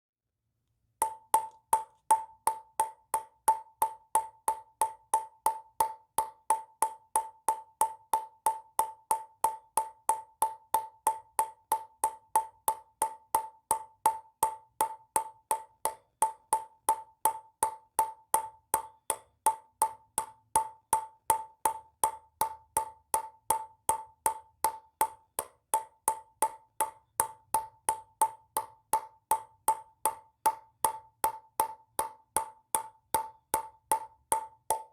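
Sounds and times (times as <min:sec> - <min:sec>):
ping-pong ball bouncing: 0:01.0 - 0:34.9.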